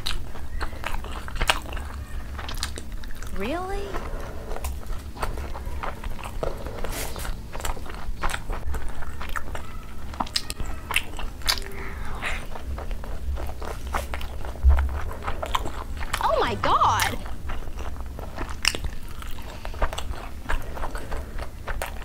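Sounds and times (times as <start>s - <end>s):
chewing with wet mouth clicks: 0.0s - 16.2s, 17.0s - 22.0s.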